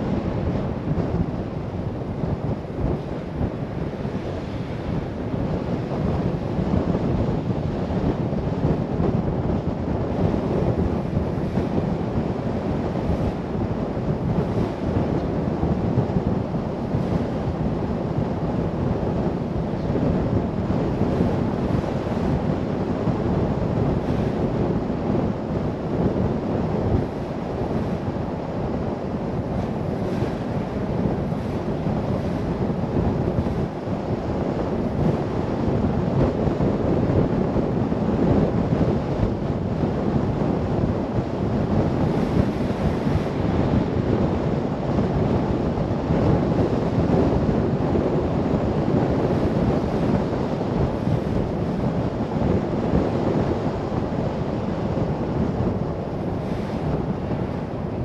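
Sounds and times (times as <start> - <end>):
wind rushing past: 0.0 - 58.0.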